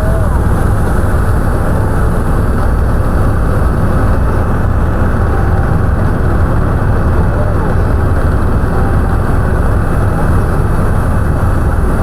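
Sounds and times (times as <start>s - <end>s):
helicopter engine and rotor rumble: 0.0s - 12.0s.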